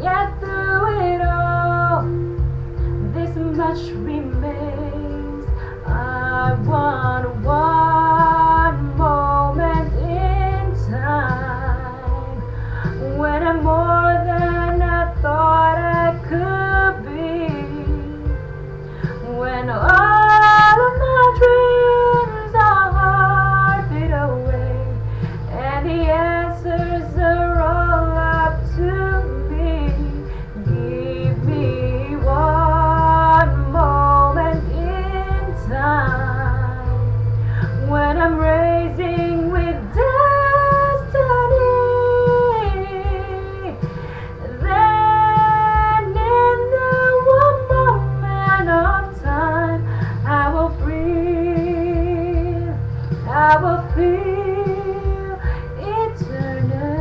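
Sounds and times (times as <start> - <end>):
instrumental backing with bass: 0.0 - 57.0.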